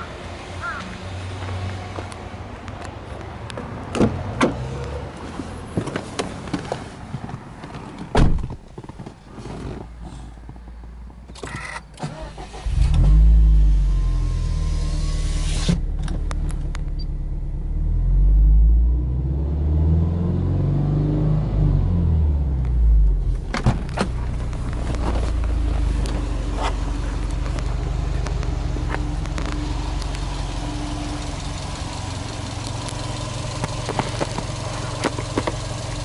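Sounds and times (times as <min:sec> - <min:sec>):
car engine cranking and idling: 0:02.0 - 0:36.0.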